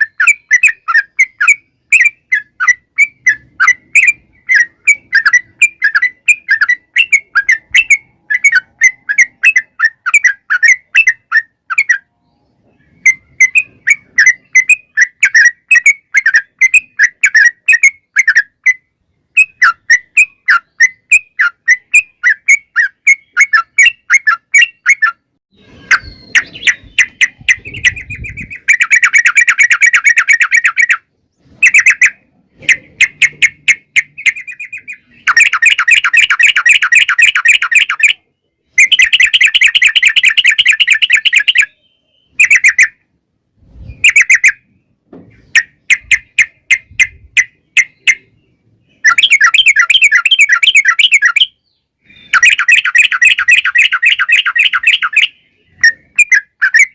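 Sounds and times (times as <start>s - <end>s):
bird singing chattering trills: 0.0s - 43.1s, 43.7s - 56.9s.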